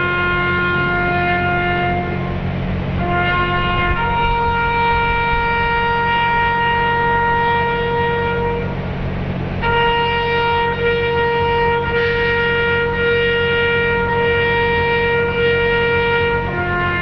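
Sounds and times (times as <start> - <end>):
brass instrument long notes: 0.0 - 8.9, 9.6 - 17.0
low hum: 0.0 - 17.0.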